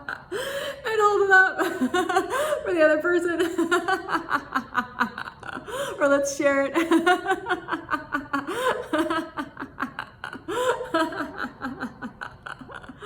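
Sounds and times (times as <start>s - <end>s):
woman laughing: 1.6s - 13.0s.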